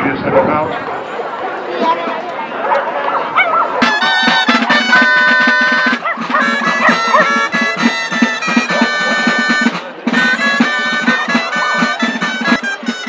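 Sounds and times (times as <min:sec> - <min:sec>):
shawms playing folk melody: 0:00.6 - 0:13.0
drums beating: 0:00.8 - 0:13.0.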